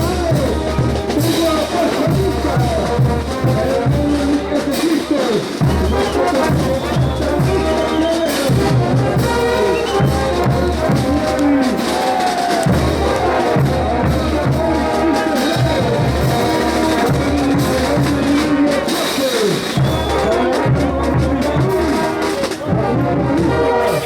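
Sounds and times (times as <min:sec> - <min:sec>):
brass band playing dance music: 0:00.0 - 0:24.0.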